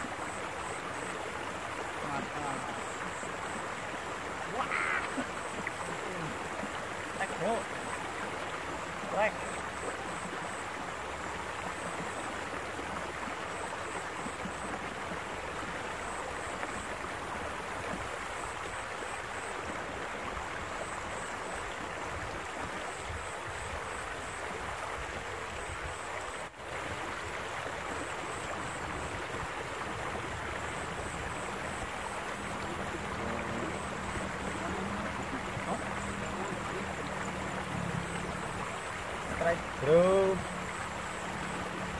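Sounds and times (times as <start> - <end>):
water rushing in a canal: 0.0 - 41.9.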